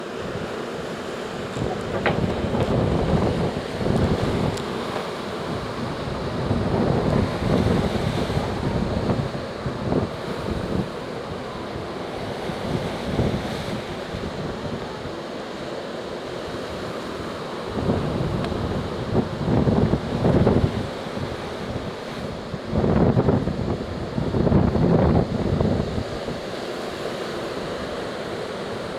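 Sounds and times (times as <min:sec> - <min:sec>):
surf breaking on beach: 0:00.0 - 0:28.9
wind gusting on microphone: 0:00.0 - 0:28.9.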